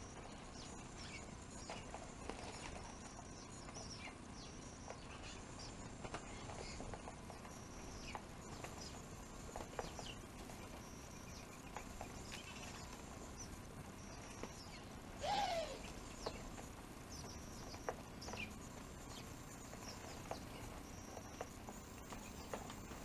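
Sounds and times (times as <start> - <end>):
birds pecking clicks: 0.0 - 15.1, 15.8 - 23.0
small birds chirping: 0.0 - 23.0.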